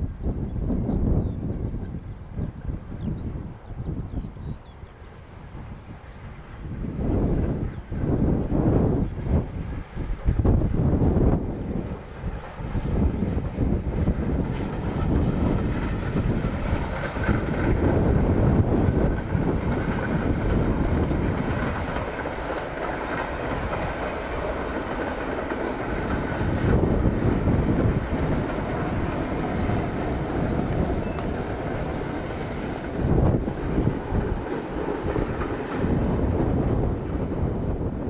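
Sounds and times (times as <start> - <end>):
steam train running on rails: 0.0 - 38.0.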